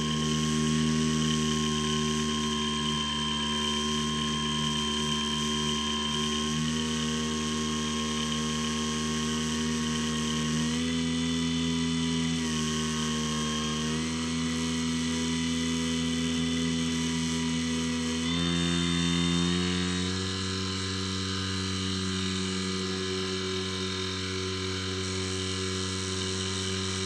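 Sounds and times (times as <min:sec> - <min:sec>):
electric motor and propeller: 0:00.0 - 0:27.0.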